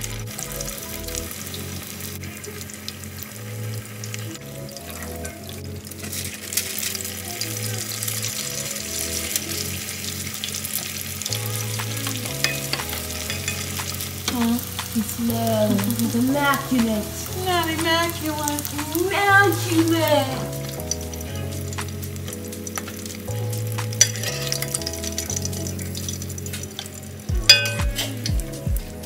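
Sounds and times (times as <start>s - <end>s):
background music with bass: 0.0s - 29.0s
food deep-frying in oil: 0.0s - 29.0s.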